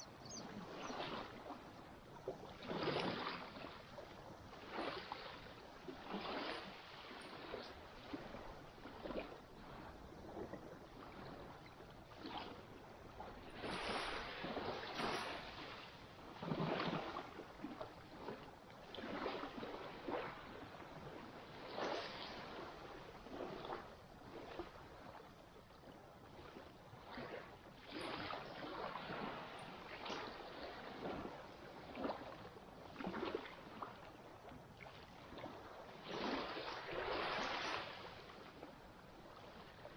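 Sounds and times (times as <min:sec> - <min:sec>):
sea water washing and splashing: 0:00.2 - 0:25.2, 0:26.3 - 0:39.9.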